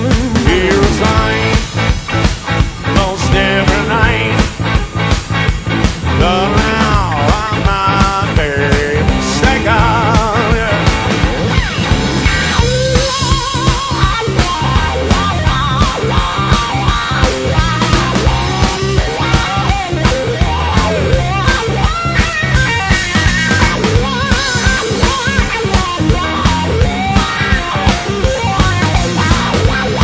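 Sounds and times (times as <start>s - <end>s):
rock music: 0.0s - 30.0s.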